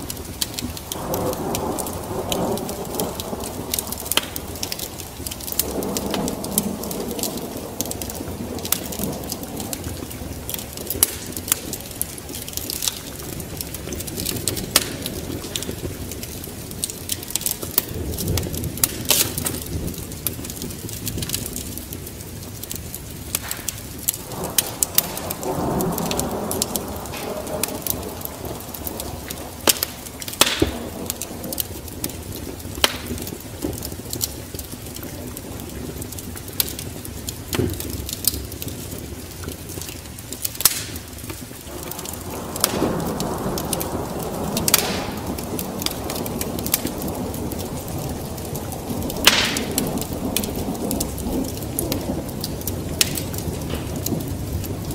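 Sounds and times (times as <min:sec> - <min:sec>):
thunder rolling: 0:00.0 - 0:39.9, 0:40.8 - 0:54.9
steady rain: 0:00.0 - 0:54.9
wood fire crackling: 0:00.0 - 0:54.9.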